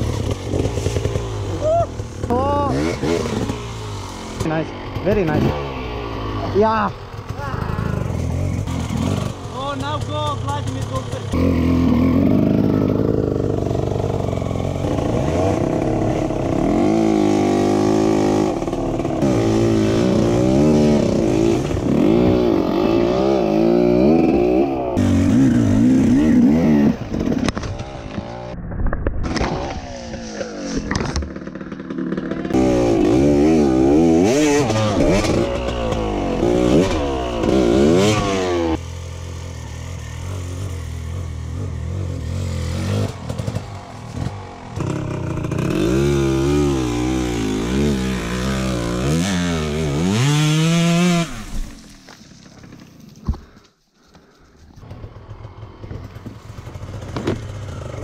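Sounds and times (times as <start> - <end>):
dirt bike engine revving: 0.0 - 28.6, 29.2 - 51.8.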